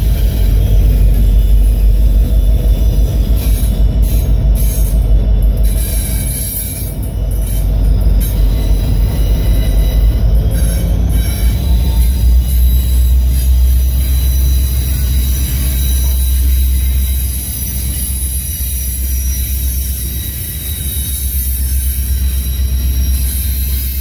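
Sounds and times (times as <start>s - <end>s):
high-pitched wheel squeal: 0.0s - 24.0s
train wheels rumbling on rail: 0.0s - 24.0s.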